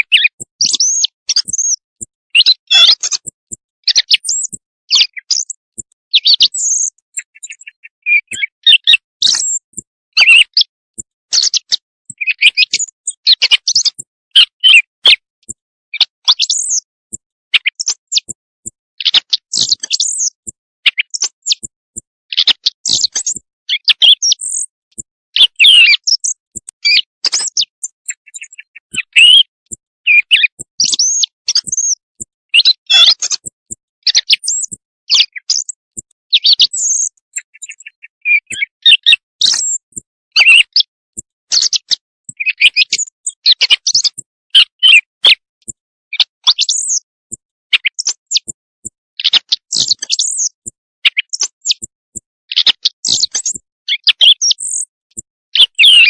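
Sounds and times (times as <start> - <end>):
high bird chirps and trills: 0.0 - 45.4, 46.1 - 54.9, 55.8 - 56.0.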